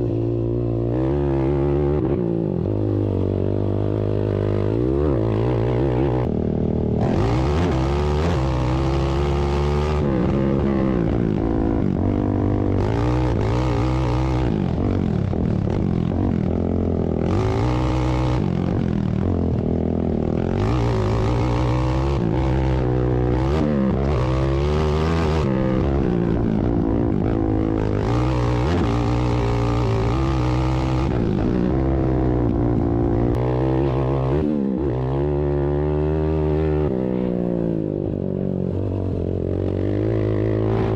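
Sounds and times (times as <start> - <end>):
atv engines revving: 0.0 - 40.9.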